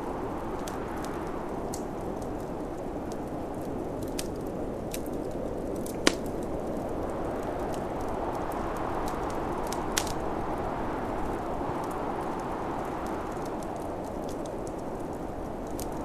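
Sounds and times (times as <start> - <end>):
snowstorm wind rushing: 0.0 - 16.0
wood fire crackling and popping: 0.0 - 16.0.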